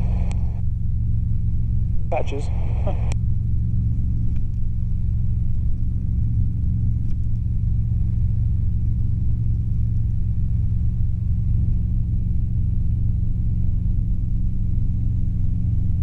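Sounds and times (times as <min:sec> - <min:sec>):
helicopter engine and rotors droning: 0:00.0 - 0:16.0.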